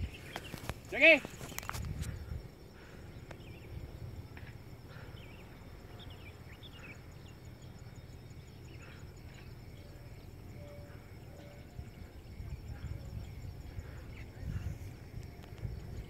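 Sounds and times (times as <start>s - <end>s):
faint high insect trill: 0.0s - 16.0s
small birds chirping: 0.0s - 16.0s.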